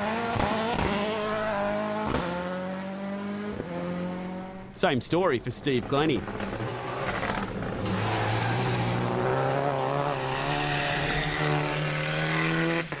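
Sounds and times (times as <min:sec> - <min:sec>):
rally car engine at steady revs: 0:00.0 - 0:04.7, 0:06.2 - 0:13.0
gravel and road noise: 0:00.0 - 0:13.0.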